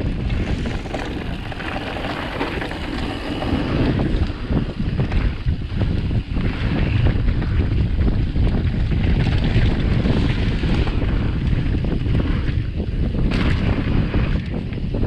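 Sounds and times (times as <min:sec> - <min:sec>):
mountain bike rumble and rattle: 0:00.0 - 0:15.0
wind buffeting microphone: 0:00.0 - 0:15.0.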